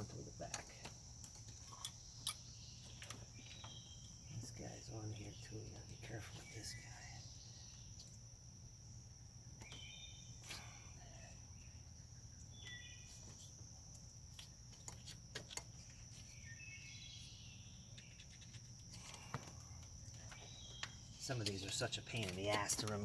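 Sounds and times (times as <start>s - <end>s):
bird chirps: 0.0s - 8.2s, 9.6s - 13.5s, 15.8s - 23.0s
crickets trilling: 0.0s - 23.0s.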